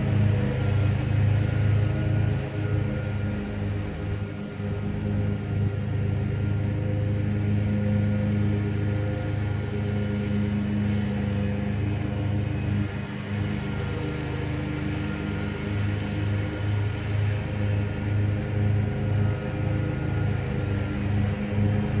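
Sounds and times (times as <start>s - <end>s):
mower engine humming: 0.0s - 22.0s.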